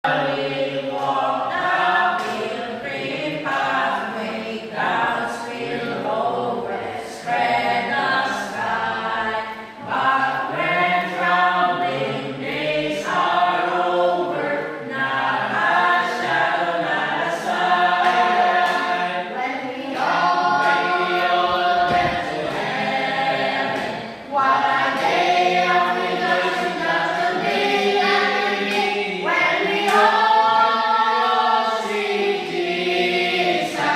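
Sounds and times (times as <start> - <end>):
choir singing: 0.0 - 33.9.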